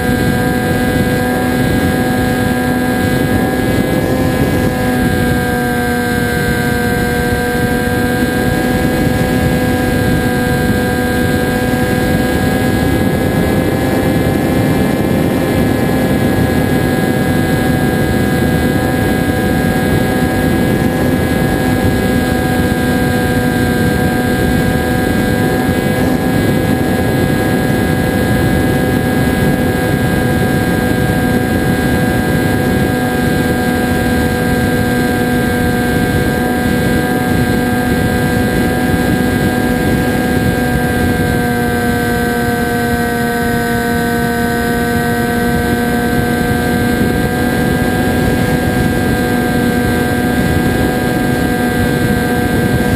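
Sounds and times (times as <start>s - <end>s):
propeller motor droning: 0.0s - 52.9s.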